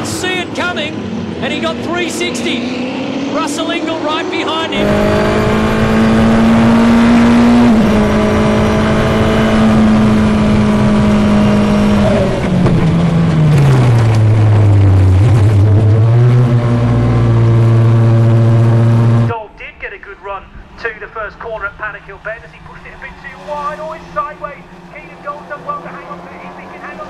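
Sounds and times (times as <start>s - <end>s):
race car engine revving: 0.0s - 19.4s, 20.2s - 27.0s.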